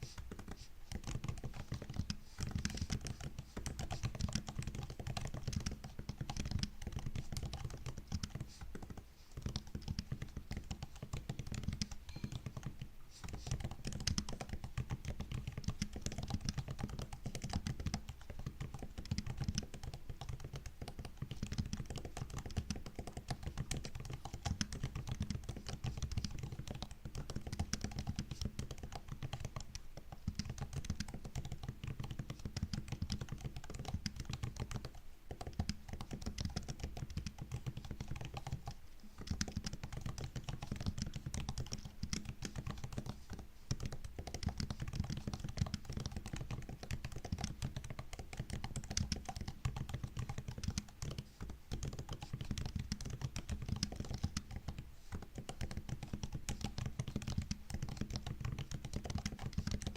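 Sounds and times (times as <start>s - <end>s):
fast typing on laptop keyboard: 0.0s - 59.9s.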